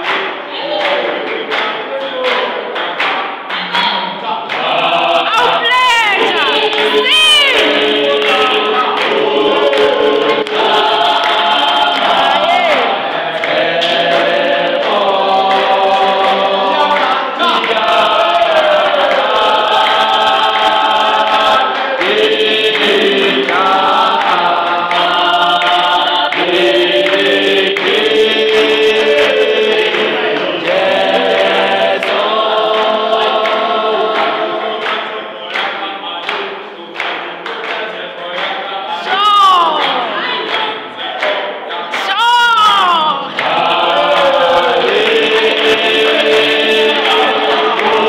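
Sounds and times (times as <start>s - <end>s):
choir singing gospel in harmony: 0.0s - 48.0s
hand clapping: 0.0s - 48.0s.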